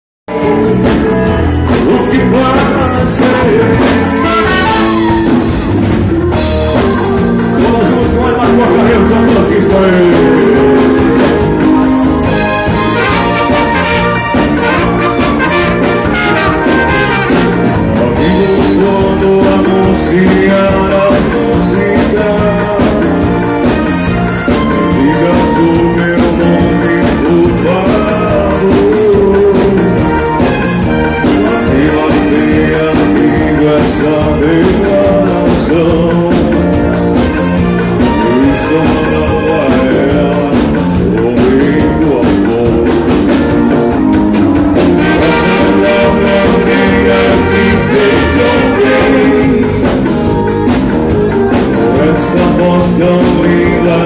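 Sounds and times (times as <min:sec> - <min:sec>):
man singing into a microphone: 0:00.3 - 0:05.5, 0:06.7 - 0:11.7, 0:12.7 - 0:43.8, 0:45.0 - 0:50.4, 0:51.7 - 0:54.0
drums: 0:00.3 - 0:54.0
electric guitar: 0:00.3 - 0:54.0.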